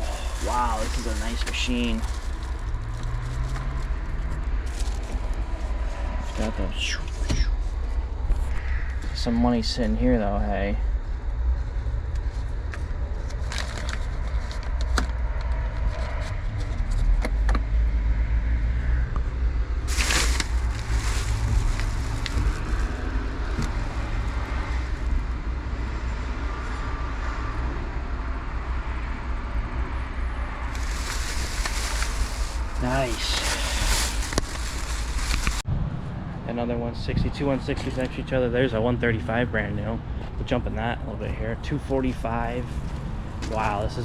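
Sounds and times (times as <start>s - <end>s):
low outdoor rumble: 0.0s - 44.0s.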